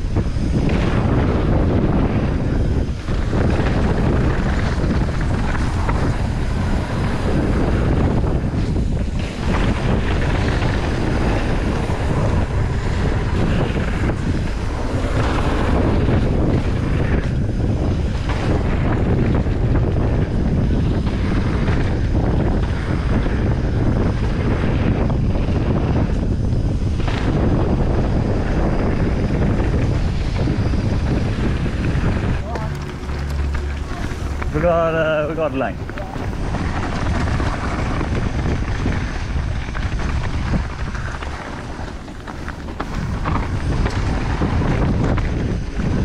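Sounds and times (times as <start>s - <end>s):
bike tyre and trail noise: 0.0s - 46.0s
wind buffeting microphone: 0.0s - 46.0s.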